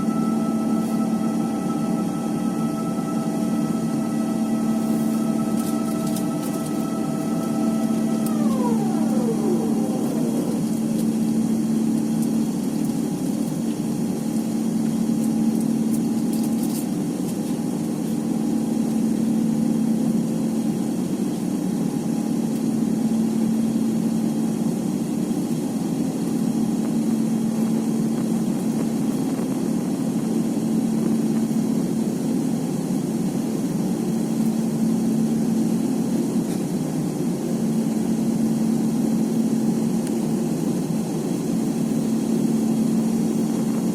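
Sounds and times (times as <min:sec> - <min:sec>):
jet engines running steadily: 0:00.0 - 0:43.9.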